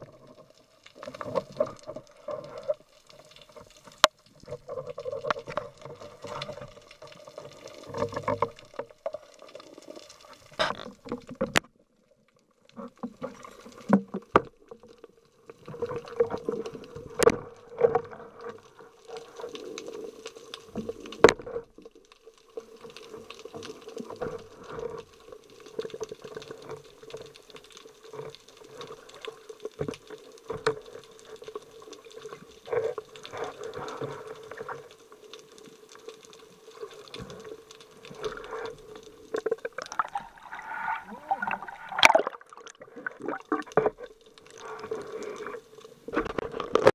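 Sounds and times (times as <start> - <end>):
muffled underwater water movement: 0.0 - 46.9.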